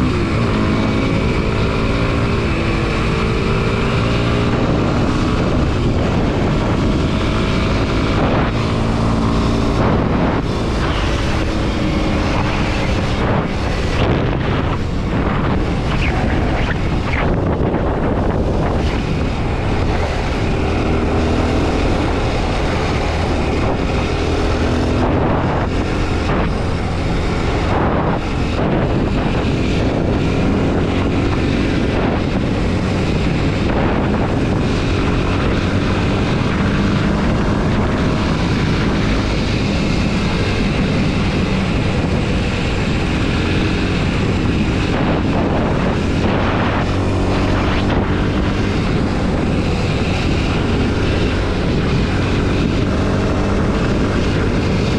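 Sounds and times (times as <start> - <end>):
motorcycle engine revving: 0.0 - 54.9
wind rushing over microphone: 0.0 - 54.9.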